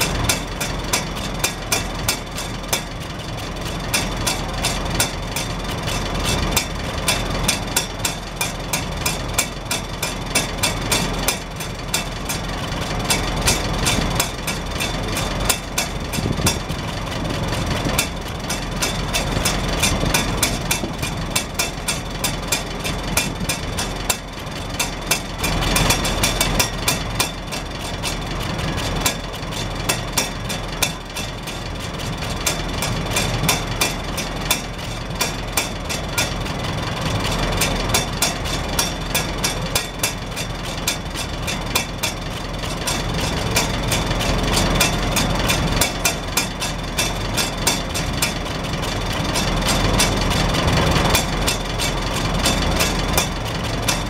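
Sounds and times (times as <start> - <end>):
exhaust rain cap rattling: 0.0 - 54.0
tractor engine idling: 0.0 - 54.0.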